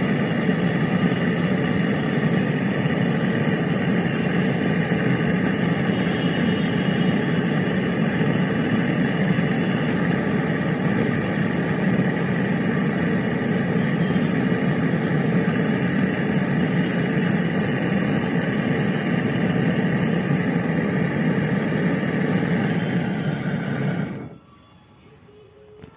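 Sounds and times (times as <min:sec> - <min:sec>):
machine motor humming: 0:00.0 - 0:24.4.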